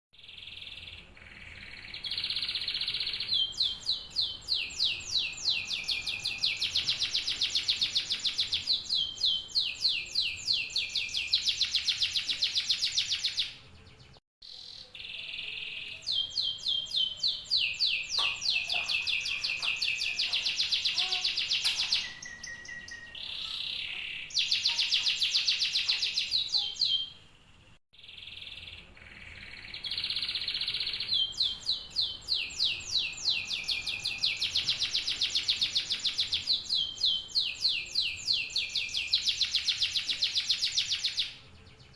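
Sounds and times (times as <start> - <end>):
canary singing fast trills: 0.2 - 27.2, 28.0 - 41.9.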